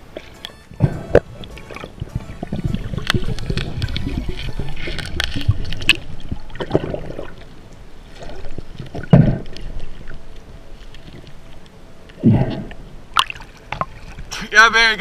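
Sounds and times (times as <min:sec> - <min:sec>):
underwater water rush: 0:00.0 - 0:15.0.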